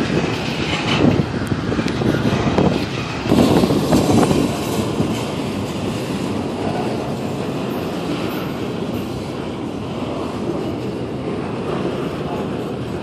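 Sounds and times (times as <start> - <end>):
steel wheels running on rails: 0.0 - 13.0.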